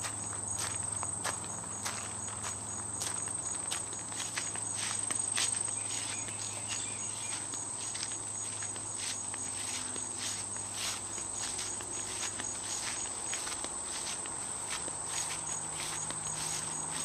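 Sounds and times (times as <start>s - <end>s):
footsteps through grass: 0.0s - 17.0s
insects chirring: 0.0s - 17.0s.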